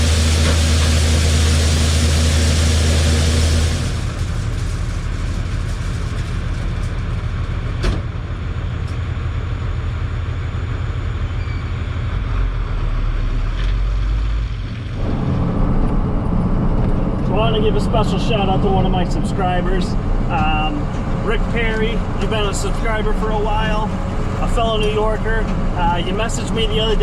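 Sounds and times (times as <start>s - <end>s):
combine engine hum: 0.0s - 27.0s.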